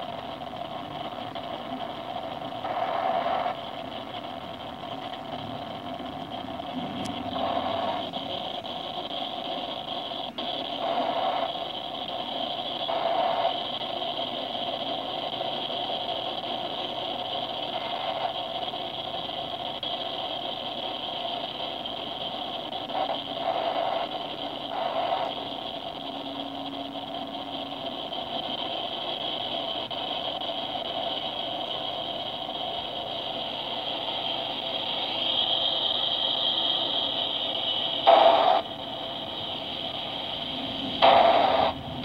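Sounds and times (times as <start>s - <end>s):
freight train wheels on rails: 1.4s - 42.0s.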